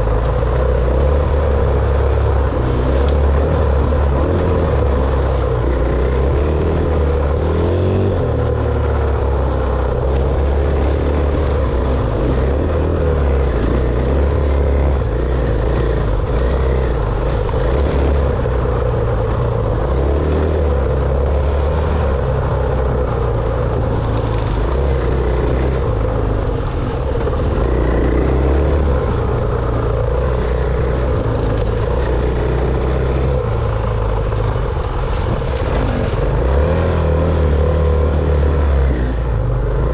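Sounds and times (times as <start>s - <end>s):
dirt bike engine running: 0.0s - 39.9s
heavy rumbling: 0.0s - 39.9s.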